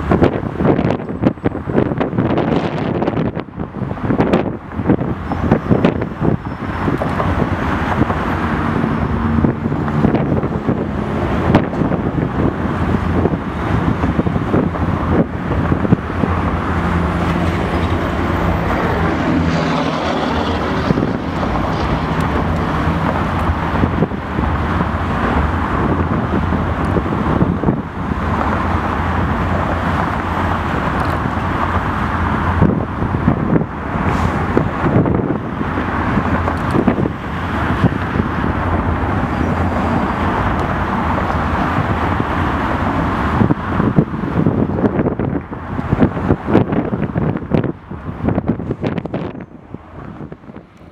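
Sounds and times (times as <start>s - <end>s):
distant vehicles rumbling: 0.0s - 50.9s
wind on microphone: 0.0s - 50.9s.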